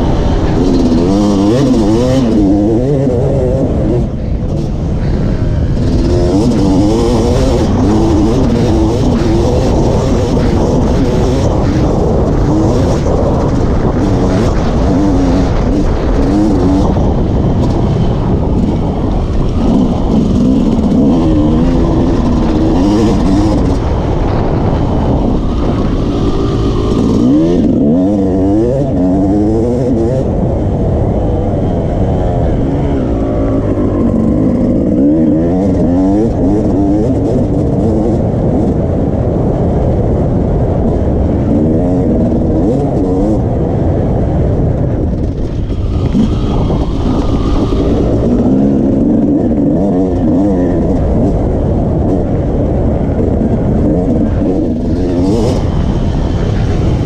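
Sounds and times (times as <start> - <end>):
dirt bike engine revving: 0.0 - 30.6, 31.2 - 38.7, 41.1 - 57.0.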